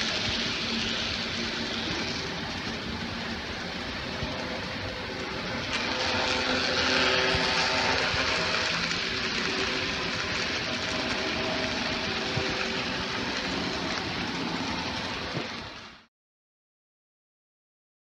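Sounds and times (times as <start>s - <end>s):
faint motor hum: 0.0s - 16.0s
model train wheels rattling: 0.0s - 16.0s.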